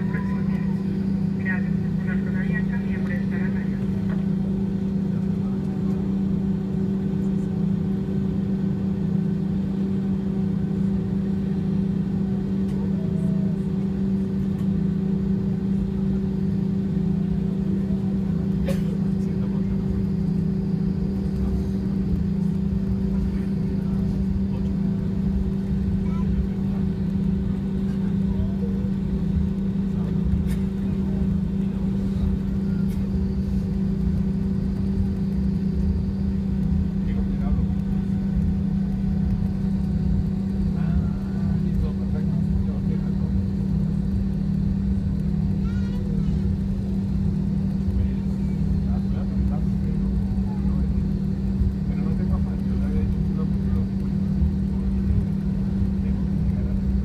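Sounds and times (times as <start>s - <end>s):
airplane cabin hum: 0.0s - 57.0s
engine whines: 0.0s - 57.0s.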